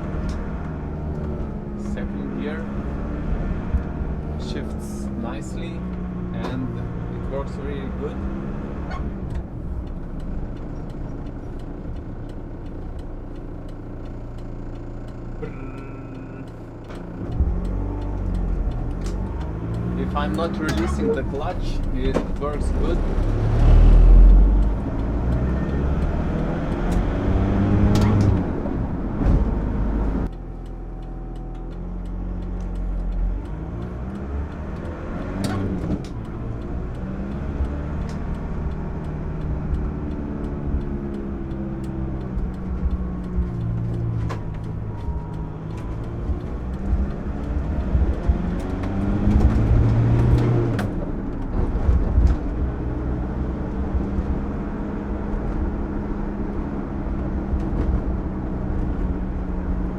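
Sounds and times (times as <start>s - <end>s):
van engine revving: 0.0s - 59.9s.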